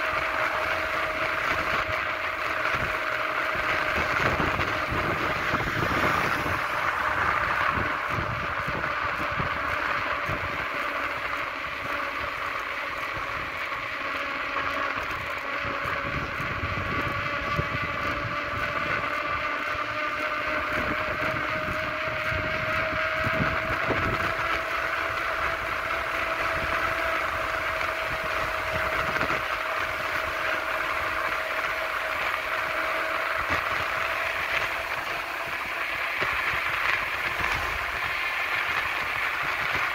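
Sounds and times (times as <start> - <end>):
hum rising in pitch: 0.0 - 39.9
wheels rolling on asphalt: 0.0 - 39.9
wind buffeting microphone: 0.0 - 39.9.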